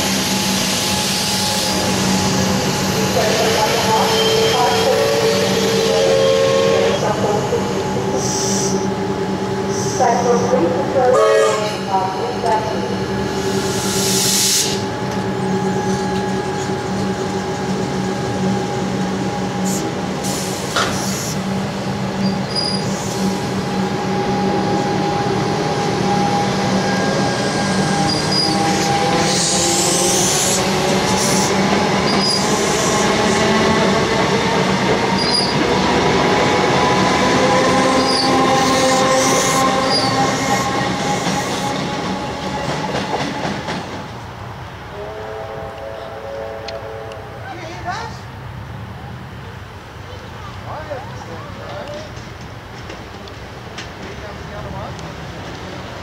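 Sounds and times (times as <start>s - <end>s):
electric train humming and whining: 0.0s - 56.0s.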